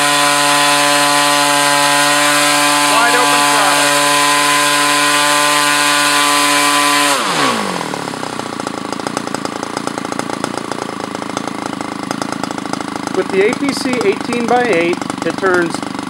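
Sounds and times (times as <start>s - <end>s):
model engine turning propeller: 0.0s - 16.0s.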